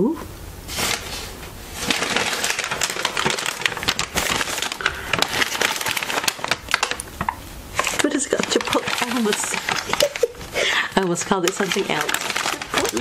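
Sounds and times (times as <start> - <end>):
paper bag crinkling and rustling: 0.7 - 13.0.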